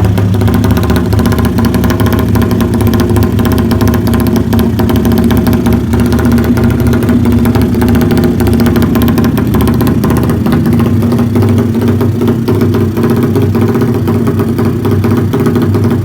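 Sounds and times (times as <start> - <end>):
loud motorcycle engine running: 0.0 - 16.0.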